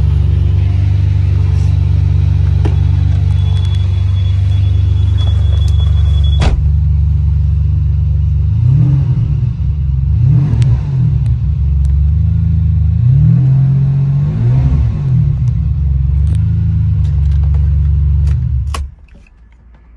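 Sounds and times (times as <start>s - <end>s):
car engine idling and revving: 0.0s - 19.9s.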